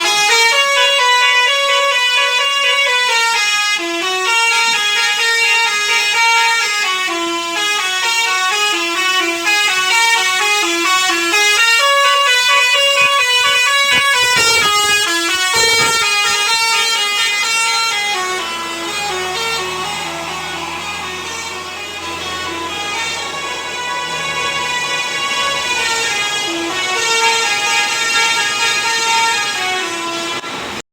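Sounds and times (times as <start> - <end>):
musical bus horn melody: 0.0 - 30.8.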